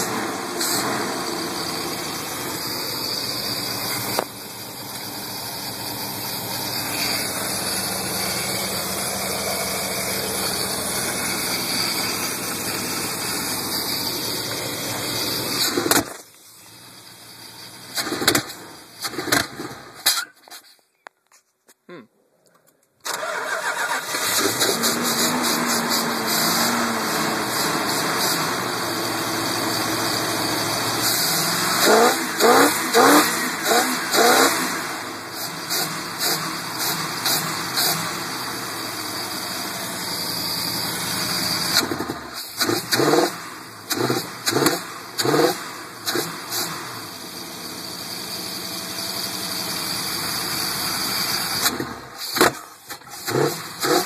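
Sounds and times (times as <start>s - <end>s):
engine running and revving: 0.0s - 20.0s, 23.4s - 54.0s.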